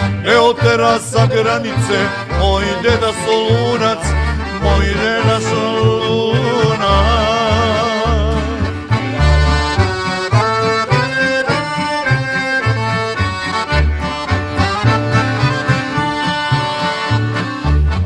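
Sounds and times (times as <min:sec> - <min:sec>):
accordions playing melody: 0:00.0 - 0:18.0
steady bass beat: 0:00.0 - 0:18.0
strummed acoustic guitar: 0:00.0 - 0:18.0.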